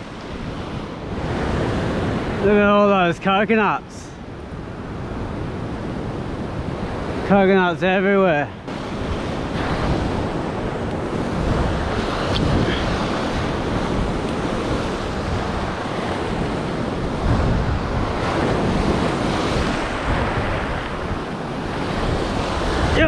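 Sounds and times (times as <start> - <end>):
wind buffeting microphone: 0.0 - 2.9, 4.2 - 7.3, 8.4 - 23.0
waves breaking on beach: 0.0 - 23.0.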